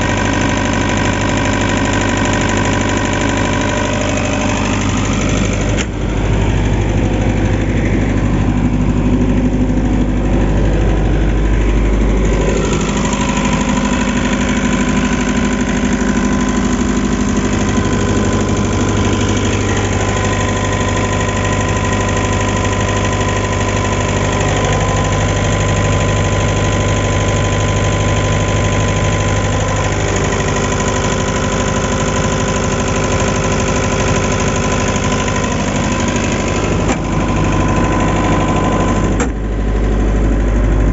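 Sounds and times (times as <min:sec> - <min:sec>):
diesel generator engine running: 0:00.0 - 0:40.9.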